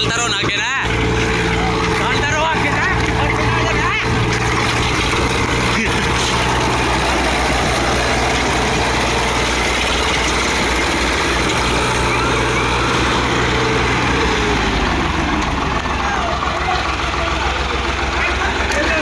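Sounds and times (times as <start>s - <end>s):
diesel tractor engines idling: 0.0s - 19.0s.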